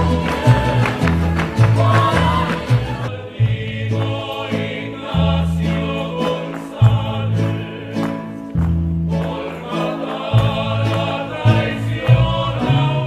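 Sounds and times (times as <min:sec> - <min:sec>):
choir singing: 0:00.0 - 0:08.5, 0:09.1 - 0:13.0
folk dance music: 0:00.0 - 0:13.0.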